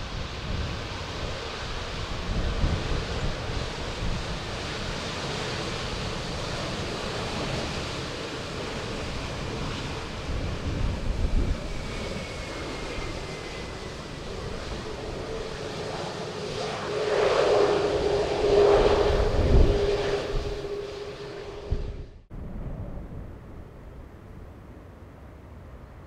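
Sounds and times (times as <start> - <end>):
jet airliner engine whine: 0.0 - 26.0.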